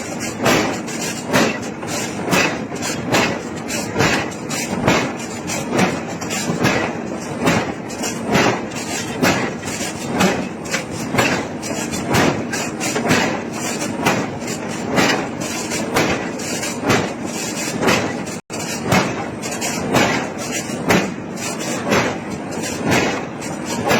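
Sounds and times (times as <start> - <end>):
continuous noise: 0.0 - 23.9
heavy hammer blows on iron: 0.0 - 23.9.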